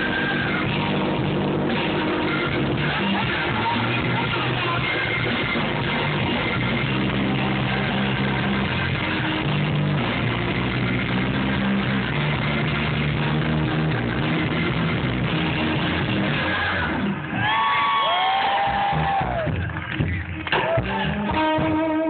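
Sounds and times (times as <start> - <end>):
held bass notes: 0.0 - 17.7, 18.5 - 22.0
live band playing: 0.0 - 17.7, 18.5 - 22.0
guitar: 0.0 - 22.0.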